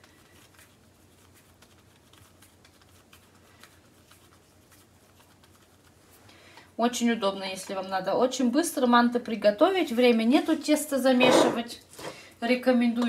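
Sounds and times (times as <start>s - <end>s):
hands rolling minced meat: 0.0s - 11.1s.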